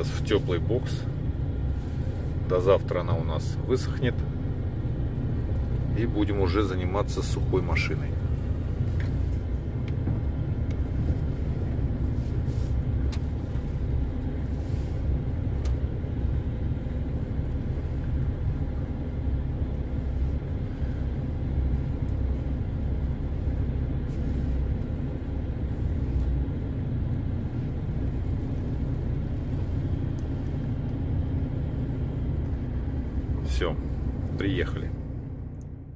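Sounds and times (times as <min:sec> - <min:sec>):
diesel truck engine rumbling: 0:00.0 - 0:35.9.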